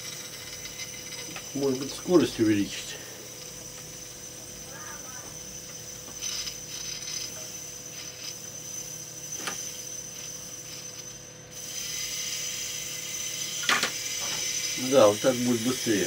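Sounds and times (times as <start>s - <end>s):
micro-drill whine: 0.0s - 16.0s.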